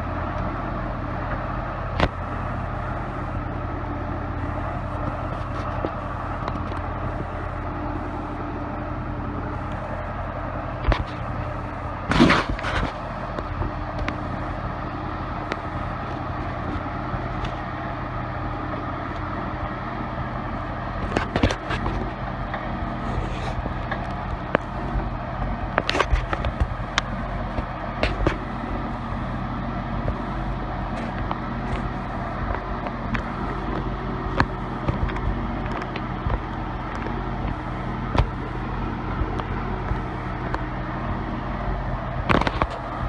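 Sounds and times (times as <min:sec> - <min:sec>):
diesel engine running at low speed: 0:00.0 - 0:43.0.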